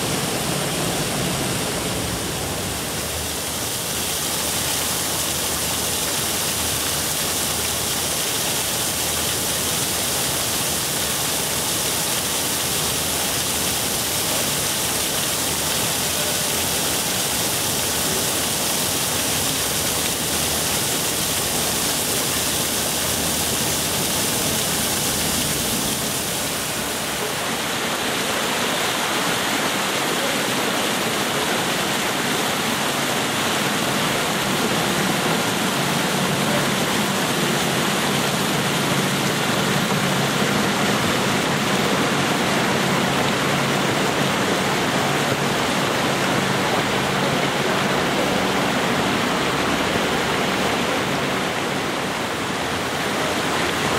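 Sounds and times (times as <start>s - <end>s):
fountain water splashing: 0.0s - 53.9s.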